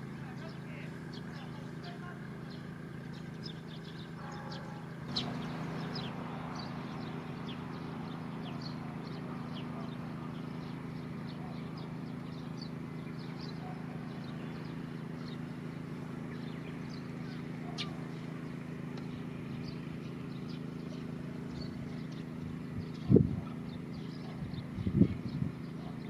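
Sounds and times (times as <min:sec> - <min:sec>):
low background drone: 0:00.0 - 0:26.0
small birds chirping: 0:00.0 - 0:26.0.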